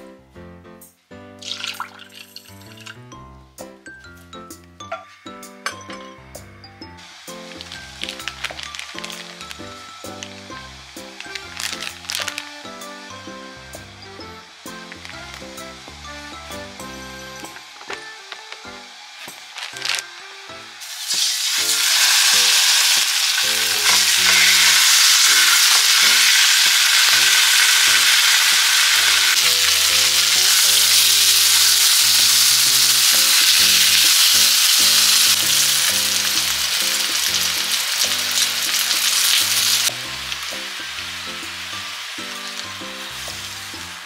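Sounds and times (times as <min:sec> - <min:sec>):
pork sizzling in hot oil: 0:01.4 - 0:03.1, 0:06.1 - 0:44.0.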